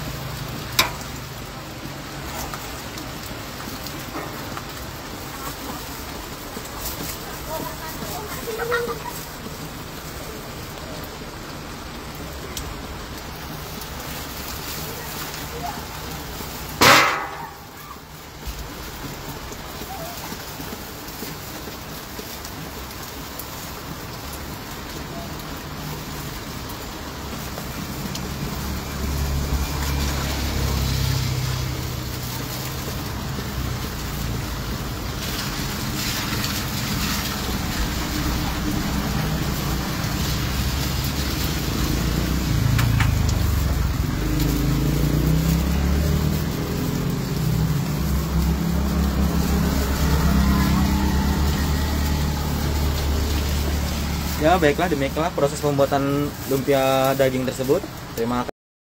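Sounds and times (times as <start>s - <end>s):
hiss of rain and tyres: 0.0s - 58.5s
vehicle engines passing: 0.0s - 58.5s.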